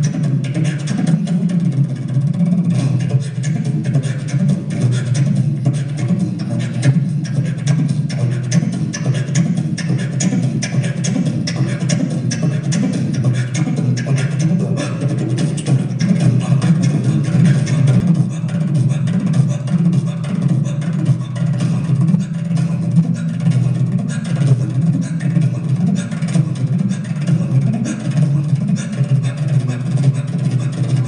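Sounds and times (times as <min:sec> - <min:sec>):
fast percussion rhythm: 0:00.0 - 0:31.0.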